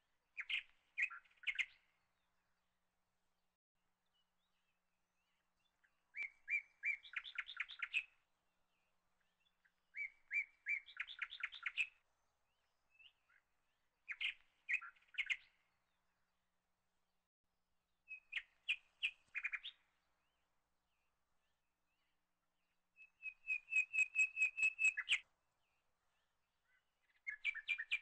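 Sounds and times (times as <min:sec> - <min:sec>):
songbird singing: 0:00.3 - 0:03.1, 0:03.9 - 0:16.8, 0:18.0 - 0:28.0.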